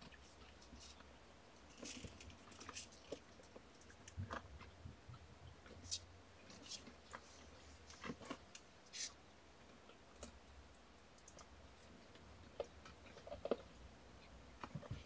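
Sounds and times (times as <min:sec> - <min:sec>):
faint clicks and soft rustles: 0:00.0 - 0:15.0.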